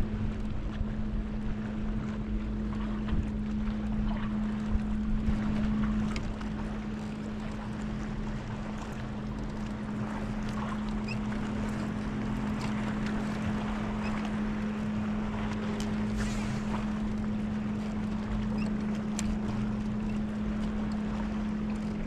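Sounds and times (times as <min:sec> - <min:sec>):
boat motor humming: 0:00.0 - 0:22.0
water noise: 0:00.0 - 0:22.0
wind: 0:00.0 - 0:22.0.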